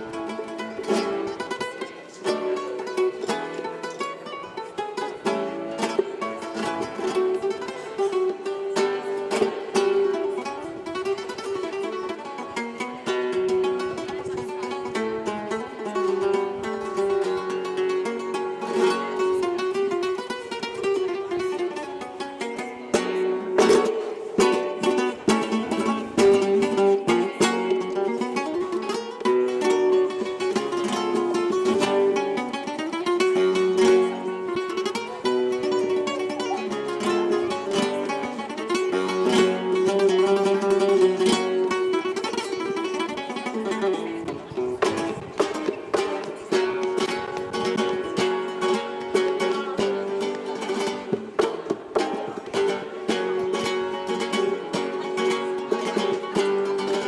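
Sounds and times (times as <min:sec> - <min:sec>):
plucked guitar-like string music: 0:00.0 - 0:57.0.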